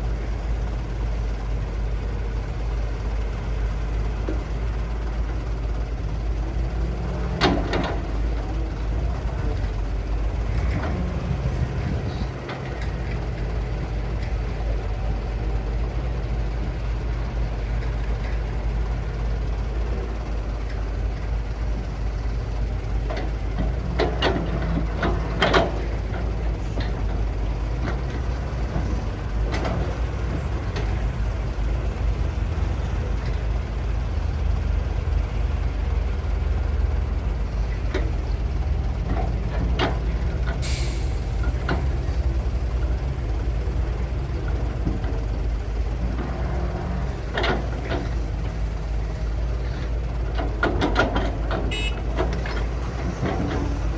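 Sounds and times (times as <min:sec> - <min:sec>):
diesel engines droning: 0:00.0 - 0:53.9.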